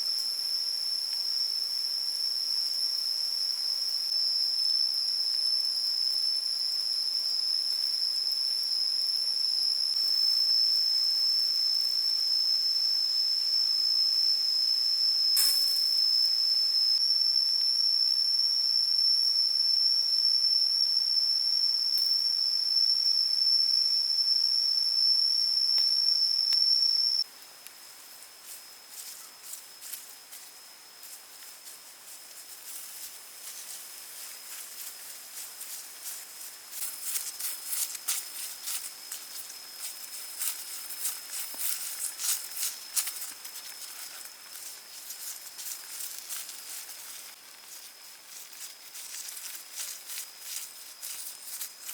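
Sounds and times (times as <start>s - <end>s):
insect high-pitched whine: 0.0s - 51.9s.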